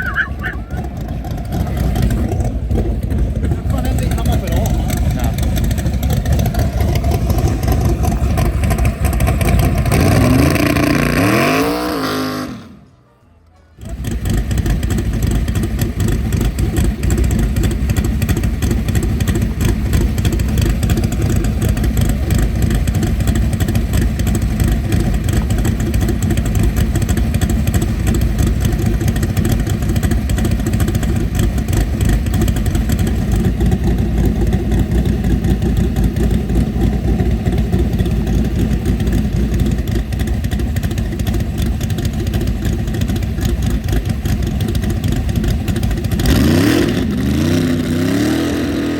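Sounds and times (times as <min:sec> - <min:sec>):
car engine revving: 0:00.0 - 0:12.9, 0:13.8 - 0:48.9
engine running with rough pulse: 0:00.0 - 0:12.9, 0:13.8 - 0:48.9.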